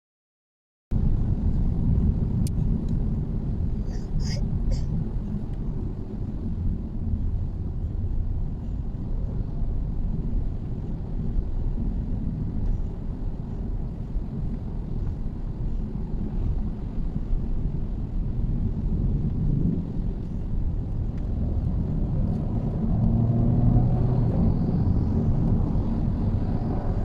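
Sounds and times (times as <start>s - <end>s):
car road and engine rumble: 0.9s - 27.0s.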